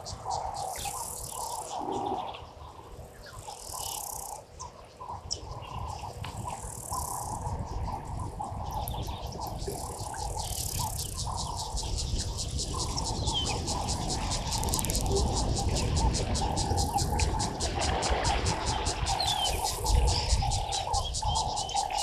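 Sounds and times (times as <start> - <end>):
birds calling and chirping: 0.0 - 22.0.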